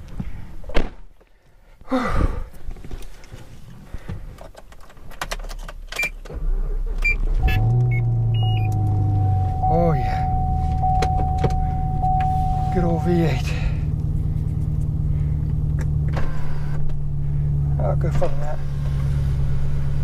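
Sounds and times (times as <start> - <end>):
car engine starting and idling: 3.2 - 20.0.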